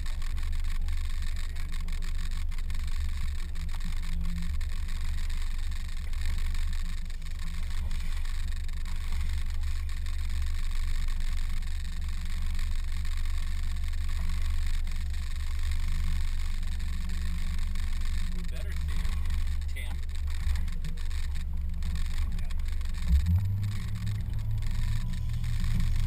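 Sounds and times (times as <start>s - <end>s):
boat motor rumbling: 0.0s - 26.0s.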